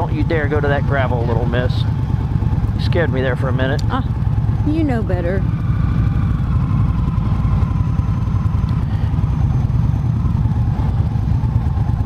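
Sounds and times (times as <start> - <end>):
motorcycle engine low rumble: 0.0 - 12.0.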